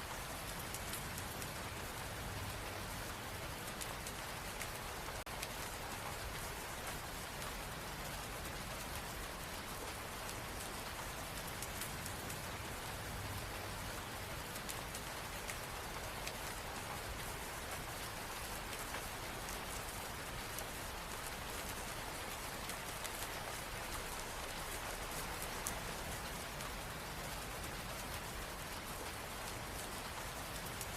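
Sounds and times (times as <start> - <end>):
raindrops pattering: 0.0 - 30.9
steady rain hiss: 0.0 - 30.9.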